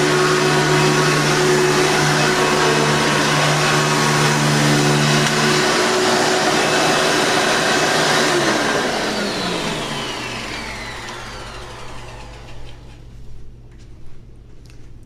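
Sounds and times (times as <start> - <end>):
vacuum cleaner spinning down: 0.0 - 13.4
vacuum cleaner motor hum: 0.0 - 13.5.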